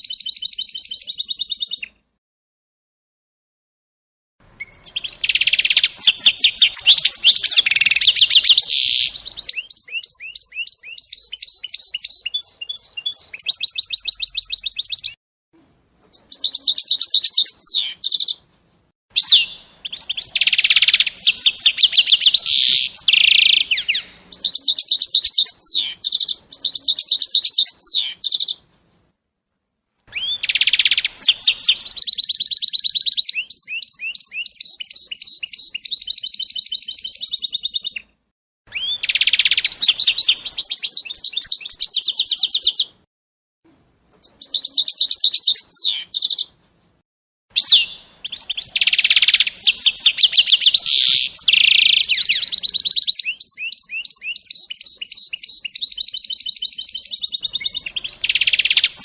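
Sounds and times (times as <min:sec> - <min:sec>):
songbird trilling and whistling: 0:00.0 - 0:02.0, 0:04.6 - 0:15.2, 0:16.0 - 0:18.4, 0:19.2 - 0:28.6, 0:30.1 - 0:42.9, 0:44.1 - 0:46.5, 0:47.6 - 0:59.0.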